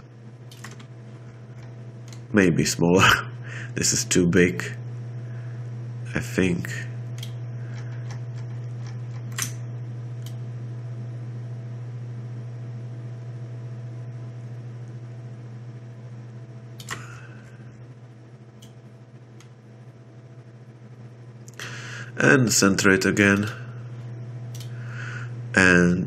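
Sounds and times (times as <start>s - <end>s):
computer fan humming: 0.0s - 26.0s.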